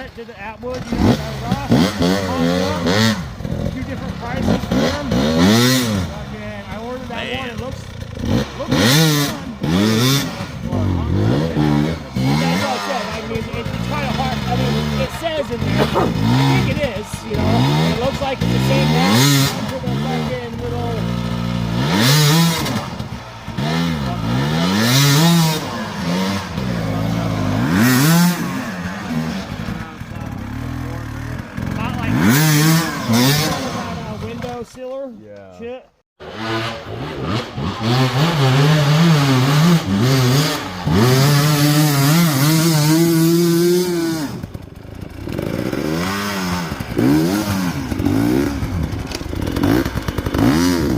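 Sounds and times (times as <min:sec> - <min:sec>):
dirt bike engine revving: 0:00.0 - 0:34.8, 0:36.2 - 0:50.9.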